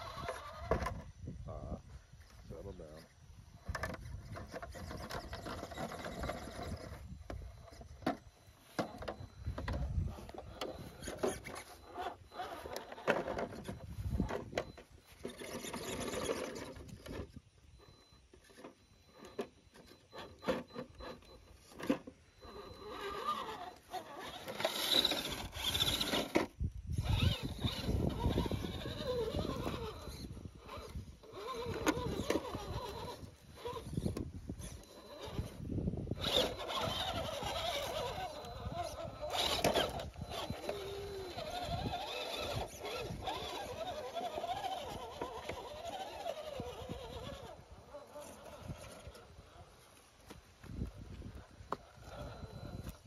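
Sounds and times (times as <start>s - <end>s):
tires scraping on rock: 0.0s - 1.2s, 2.8s - 53.0s
electric motor whining: 0.0s - 2.4s, 3.3s - 53.0s.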